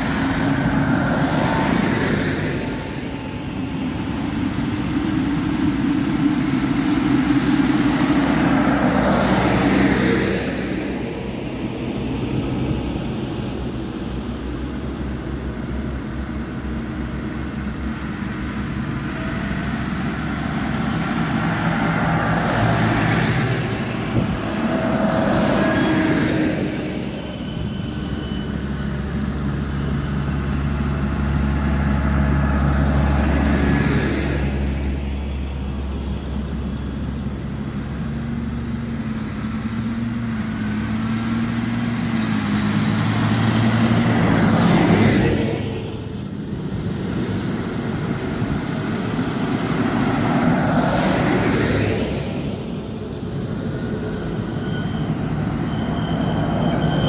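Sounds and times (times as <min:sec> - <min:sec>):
tractors driving past: 0:00.0 - 0:57.0.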